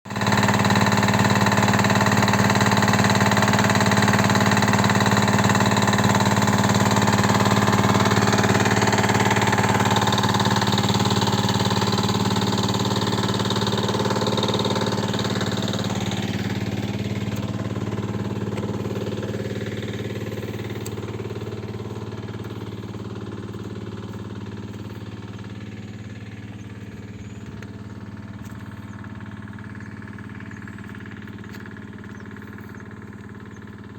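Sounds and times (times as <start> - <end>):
diesel engine running steadily: 0.0 - 33.9.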